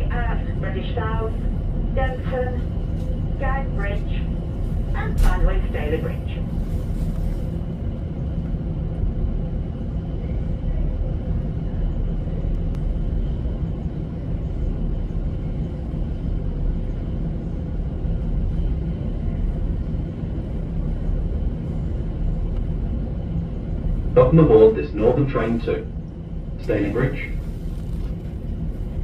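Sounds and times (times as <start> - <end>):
train rumbling inside carriage: 0.0 - 29.0.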